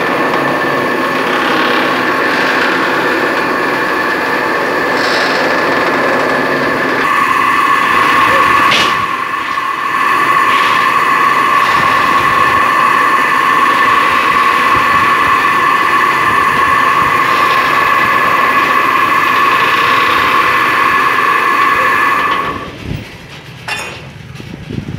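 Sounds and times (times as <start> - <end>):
electric motor whine: 0.0 - 22.7.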